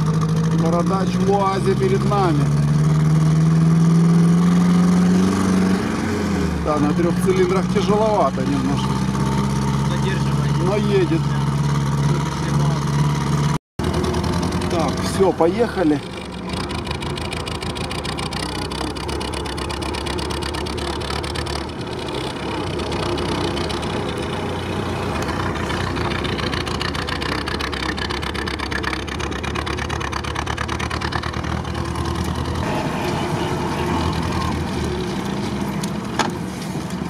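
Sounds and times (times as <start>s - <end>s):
jeep engine running unevenly: 0.0s - 37.0s.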